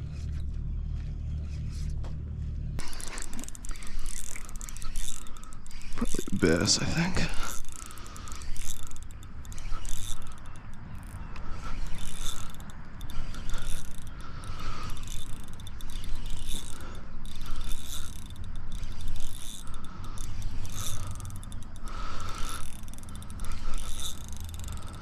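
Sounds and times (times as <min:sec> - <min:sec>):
fishing reel gears whirring: 0:02.7 - 0:25.0.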